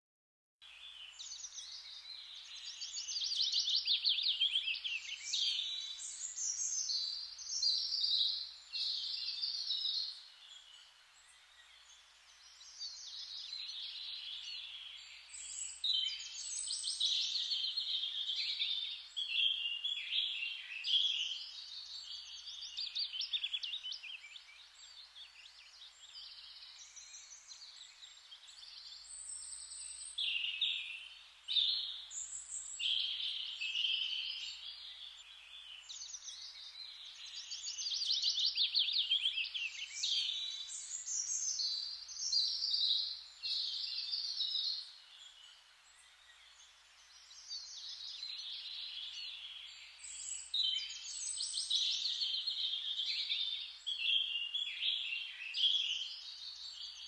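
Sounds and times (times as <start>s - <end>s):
songbirds chirping and trilling: 0.6s - 57.0s.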